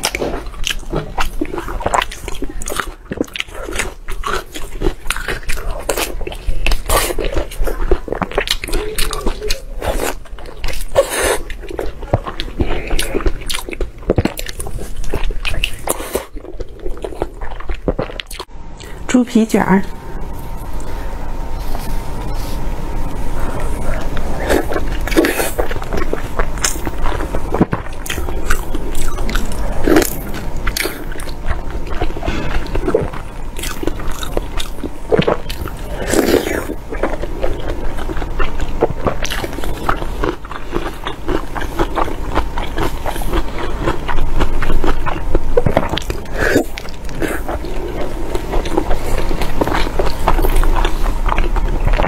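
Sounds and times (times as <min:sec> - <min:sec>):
biting and chewing: 0:00.0 - 0:18.5, 0:23.0 - 0:52.0.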